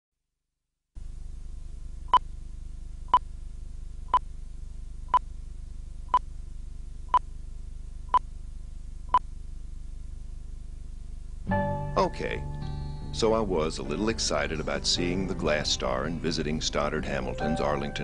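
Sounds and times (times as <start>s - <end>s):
low electrical hum: 1.0s - 18.0s.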